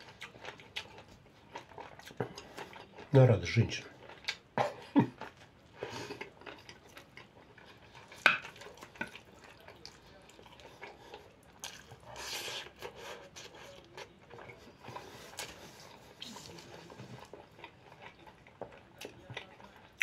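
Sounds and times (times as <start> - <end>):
person chewing wetly: 0.0 - 20.0.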